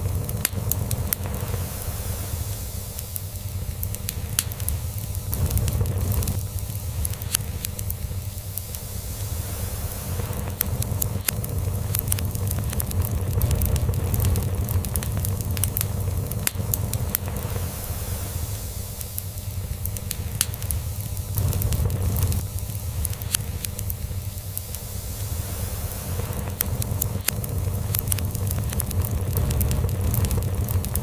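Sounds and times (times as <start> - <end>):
log fire crackling: 0.0 - 31.0.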